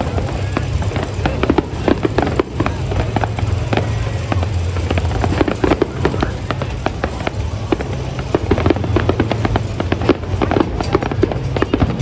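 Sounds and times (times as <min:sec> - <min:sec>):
fireworks bangs and crackles: 0:00.0 - 0:12.0
low rumble: 0:00.0 - 0:12.0.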